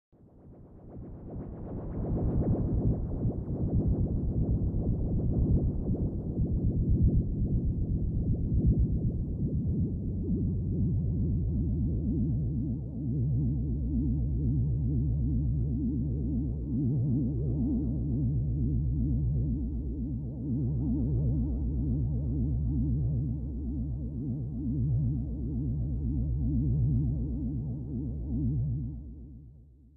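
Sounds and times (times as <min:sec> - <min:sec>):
low synthesizer drone: 0:00.2 - 0:29.3.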